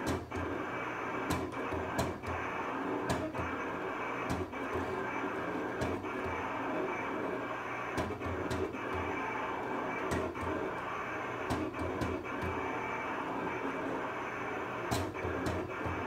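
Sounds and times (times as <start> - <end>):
cutting plotter motors whirring: 0.0 - 16.0.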